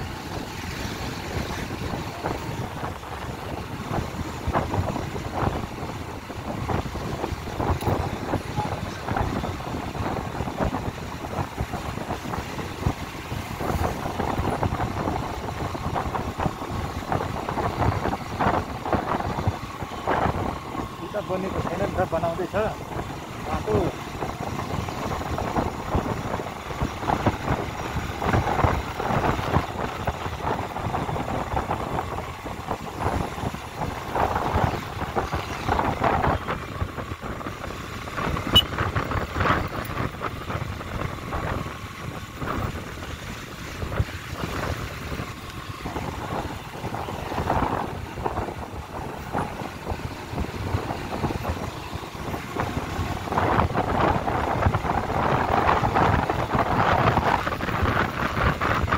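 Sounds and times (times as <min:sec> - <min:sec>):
wind on microphone: 0:00.0 - 0:58.9.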